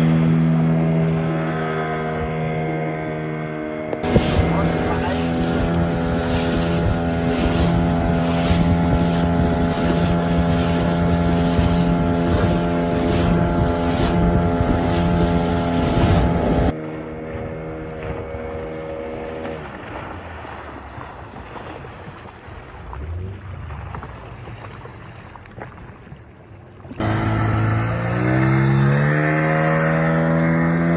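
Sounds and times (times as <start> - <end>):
engine running steadily: 0.0 - 30.9.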